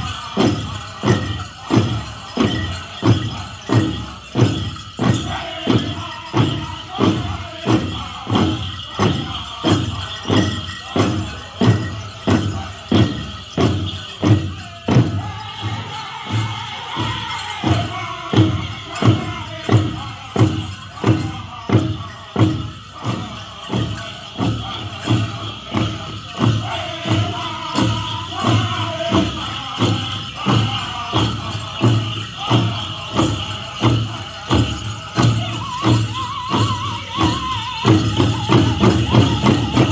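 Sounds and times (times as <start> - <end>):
high group singing: 0.0 - 39.9
jingling bells: 0.0 - 39.9
large hand drum beat: 0.0 - 39.9.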